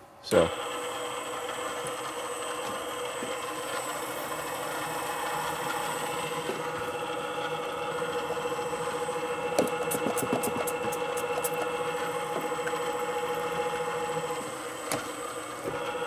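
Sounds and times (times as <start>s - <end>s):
drill press humming and whining: 0.0s - 16.0s.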